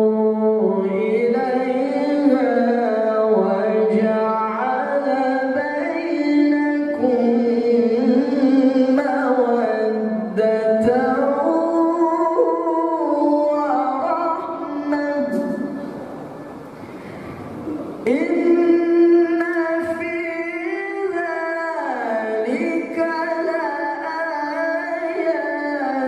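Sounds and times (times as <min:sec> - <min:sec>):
man reciting melodically: 0:00.0 - 0:16.1, 0:18.0 - 0:26.0.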